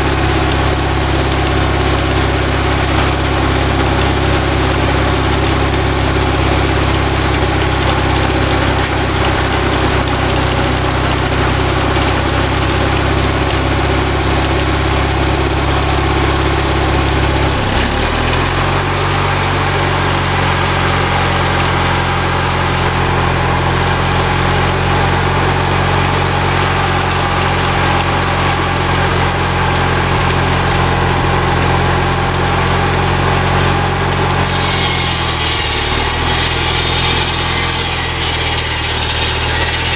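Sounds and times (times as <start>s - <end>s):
small engine running sawmill: 0.0s - 39.9s.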